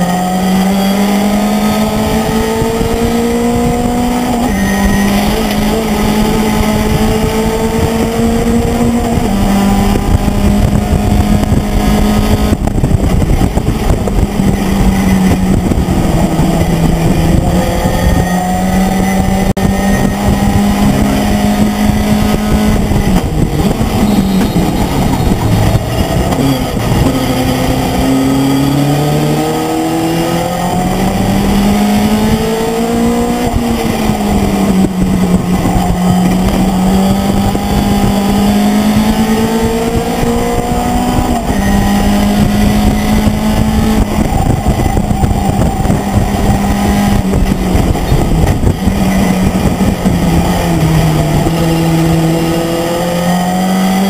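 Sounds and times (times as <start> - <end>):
road and wind noise: 0.0 - 54.0
truck engine at speed: 0.0 - 54.0.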